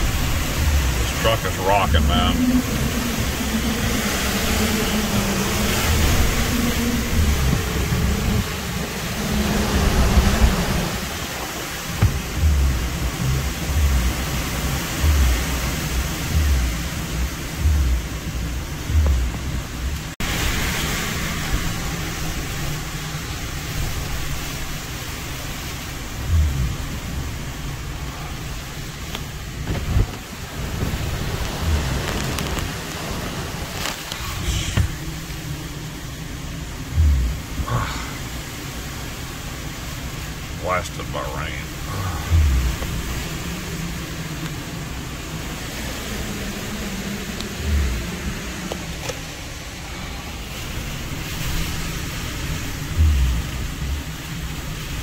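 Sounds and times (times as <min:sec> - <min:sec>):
car engine hum: 0:00.0 - 0:55.0
road noise: 0:00.0 - 0:55.0
roaring wind and rain: 0:00.0 - 0:55.0.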